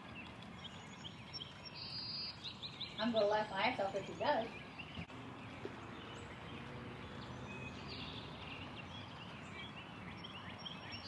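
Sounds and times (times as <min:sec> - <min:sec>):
small birds chirping faintly: 0:00.0 - 0:11.0.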